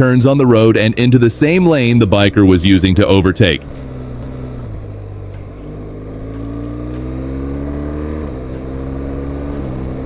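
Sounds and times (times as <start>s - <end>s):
motorcycle engine accelerating: 0.3s - 10.0s.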